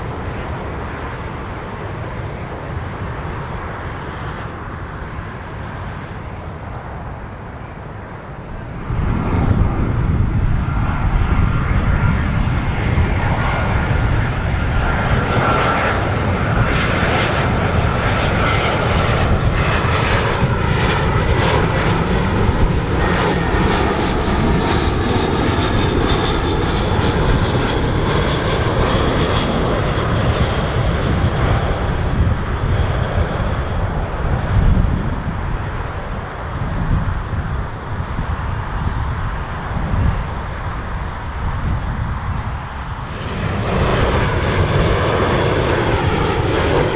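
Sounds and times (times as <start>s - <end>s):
jet airliner passing overhead: 0.0s - 46.9s.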